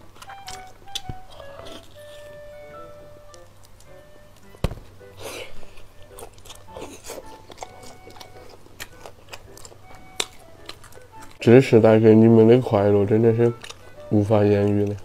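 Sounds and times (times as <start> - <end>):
wet chewing of pizza: 0.0 - 4.5, 5.1 - 11.4, 12.8 - 15.0
quiet background music: 0.0 - 15.0.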